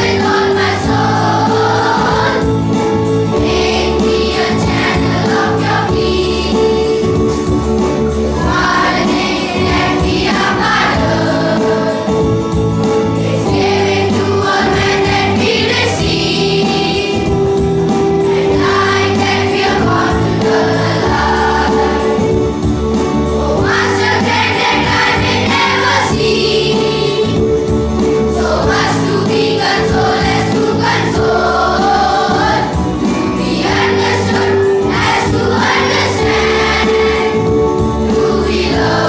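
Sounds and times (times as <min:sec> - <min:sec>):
children's choir singing a hymn: 0:00.0 - 0:39.0
instrumental accompaniment: 0:00.0 - 0:39.0.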